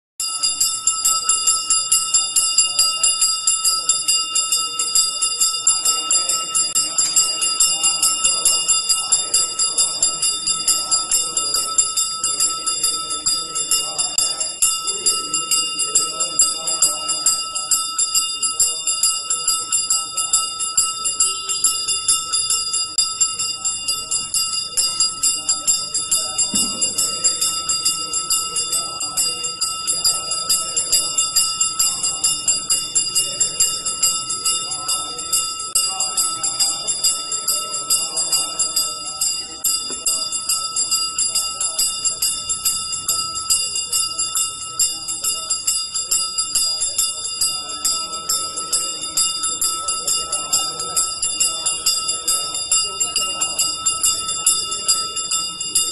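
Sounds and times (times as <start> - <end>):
temple bell ringing rapidly: 0.2 - 55.9
soft voices: 0.3 - 55.9.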